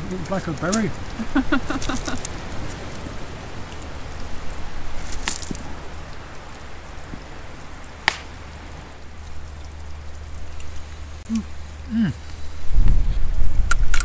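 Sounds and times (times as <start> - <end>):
soft even hiss: 0.0 - 13.9.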